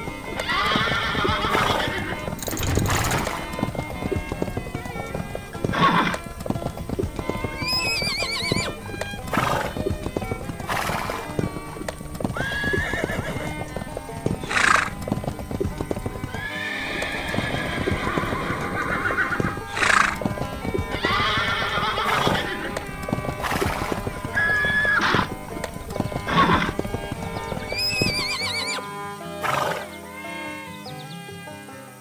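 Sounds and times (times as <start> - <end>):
horse whinnying: 0.0 - 30.0
horse hooves clip-clopping: 0.0 - 31.1
background music: 0.0 - 32.0.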